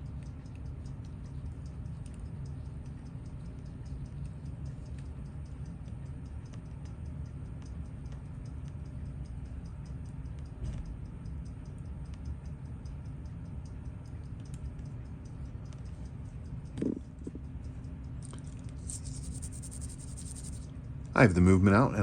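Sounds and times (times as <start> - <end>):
clock ticking: 0.0 - 18.0
low hum: 0.0 - 21.1.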